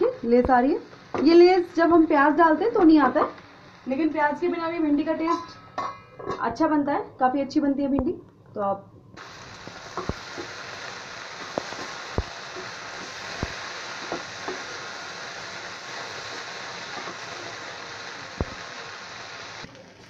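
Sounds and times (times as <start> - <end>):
okra sizzling in oil: 0.0 - 5.5, 9.2 - 20.0.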